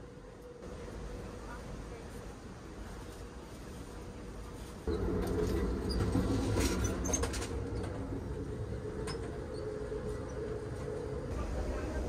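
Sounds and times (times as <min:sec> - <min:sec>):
train rumble with hum: 0:00.0 - 0:12.0.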